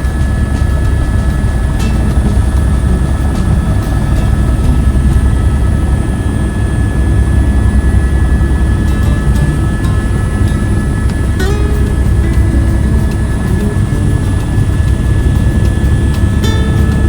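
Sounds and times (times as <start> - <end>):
helicopter rotor and engine drone: 0.0 - 17.0
thin steady whine: 0.0 - 17.0.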